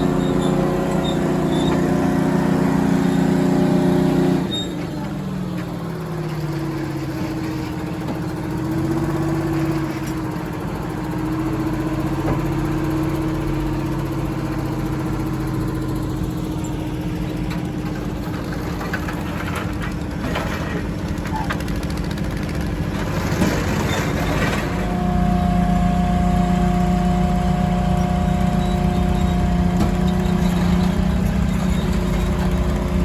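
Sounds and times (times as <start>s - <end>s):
construction machinery engine idling: 0.0s - 33.0s.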